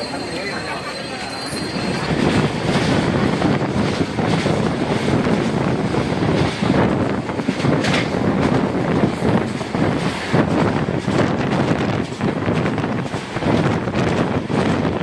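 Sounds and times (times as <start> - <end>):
train wheels rumbling on rails: 0.0 - 15.0
wind buffeting microphone: 1.8 - 15.0.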